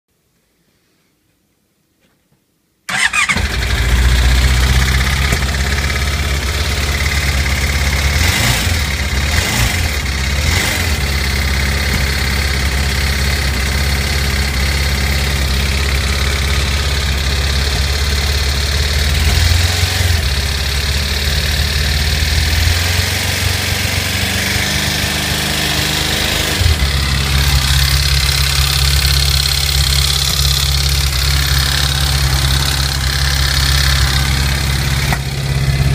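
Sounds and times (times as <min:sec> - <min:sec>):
motorcycle engine idling: 0:02.9 - 0:22.6, 0:25.0 - 0:35.9
engine knocking: 0:02.9 - 0:23.0, 0:25.8 - 0:35.9.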